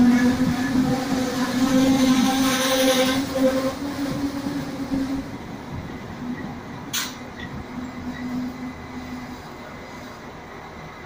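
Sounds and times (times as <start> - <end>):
passenger train rolling past: 0.0 - 11.0.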